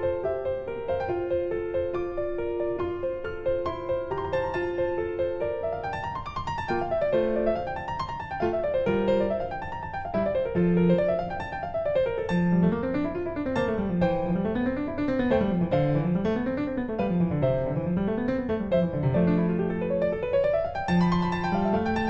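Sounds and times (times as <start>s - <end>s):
piano arpeggios: 0.0s - 22.0s.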